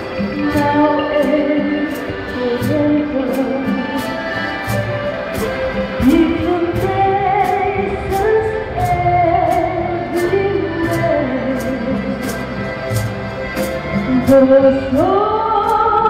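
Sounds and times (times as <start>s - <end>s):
percussion hits: 0.0s - 16.0s
singing over a steady beat: 0.0s - 16.0s.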